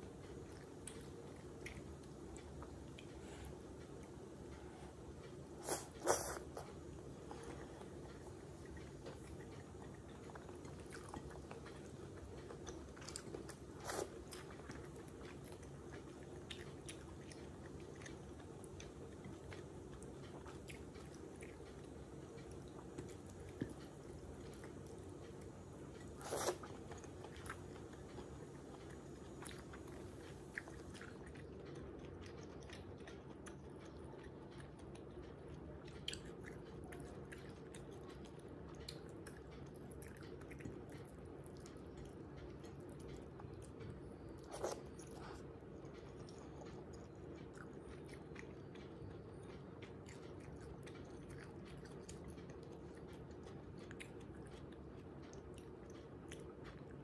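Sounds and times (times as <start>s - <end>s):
close chewing: 0.0s - 57.0s.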